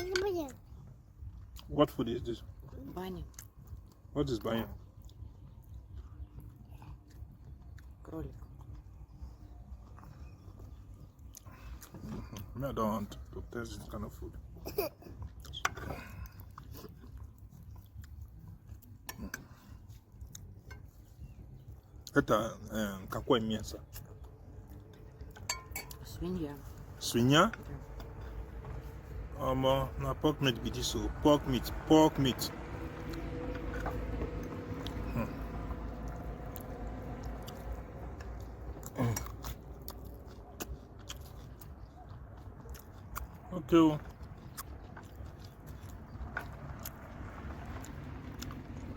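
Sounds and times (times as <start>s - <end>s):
person chewing food: 2.4s - 26.0s, 26.6s - 29.3s, 32.4s - 48.9s.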